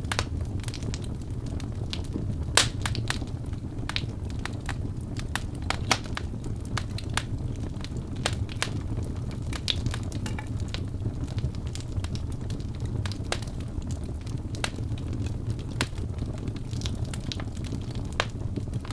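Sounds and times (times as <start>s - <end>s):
logs crackling and popping: 0.0s - 18.9s
low rush of flame: 0.0s - 18.9s.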